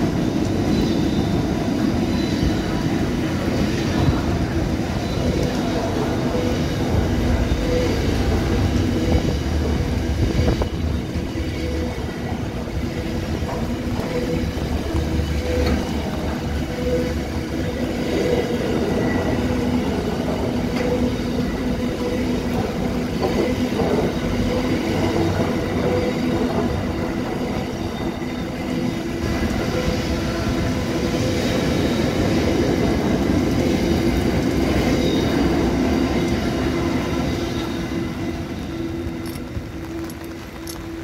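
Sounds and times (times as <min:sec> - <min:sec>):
freight train passing: 0:00.0 - 0:41.0
steel wheels on rails: 0:00.0 - 0:41.0.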